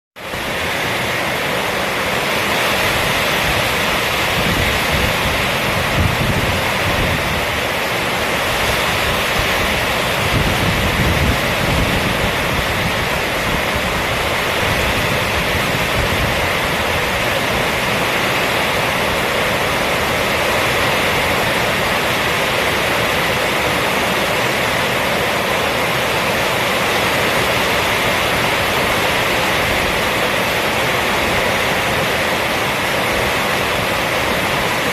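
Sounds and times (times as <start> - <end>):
heavy rain on a roof: 0.2 - 34.9.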